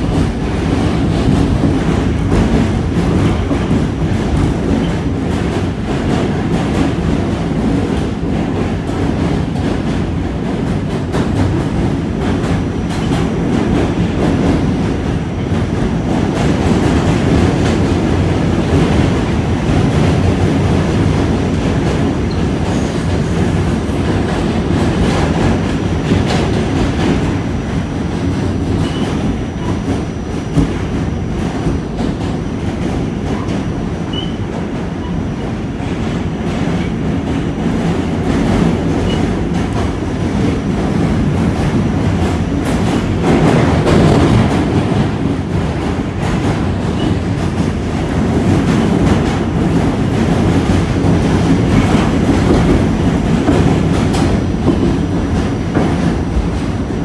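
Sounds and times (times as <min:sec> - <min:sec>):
subway car rumble: 0:00.0 - 0:57.0.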